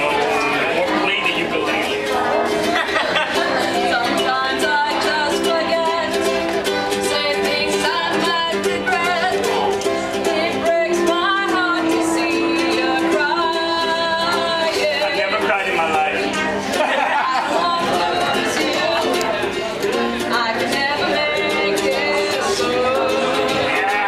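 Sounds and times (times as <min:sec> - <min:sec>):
person singing: 0:00.0 - 0:24.0
strummed string accompaniment: 0:00.0 - 0:24.0.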